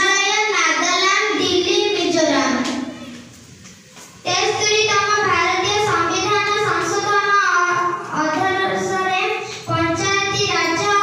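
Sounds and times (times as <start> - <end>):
girl speaking into a microphone: 0.0 - 11.0.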